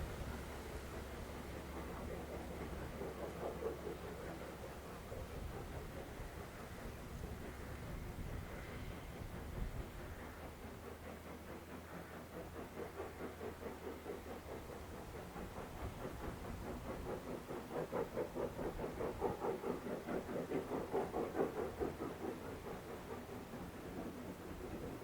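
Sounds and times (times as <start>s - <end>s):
steam locomotive exhaust beats: 0.0s - 25.0s.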